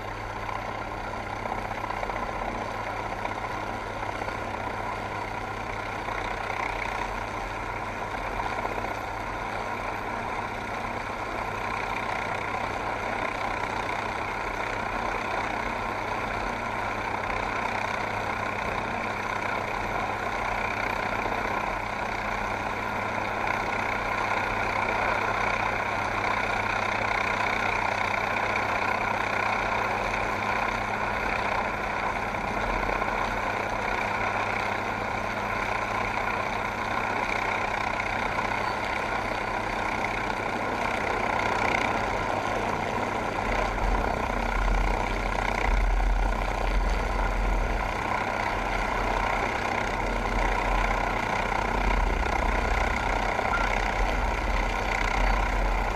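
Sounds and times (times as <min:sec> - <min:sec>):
helicopter engine and rotors: 0:00.0 - 0:55.9.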